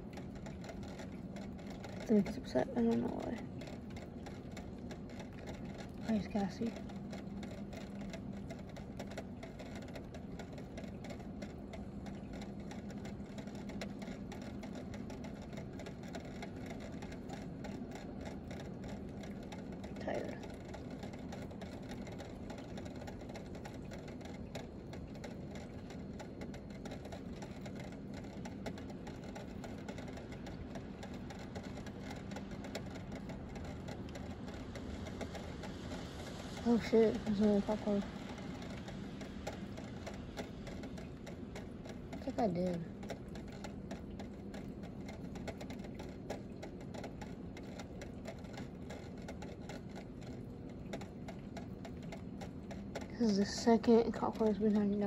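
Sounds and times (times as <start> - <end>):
light rain pattering: 0.0 - 55.0.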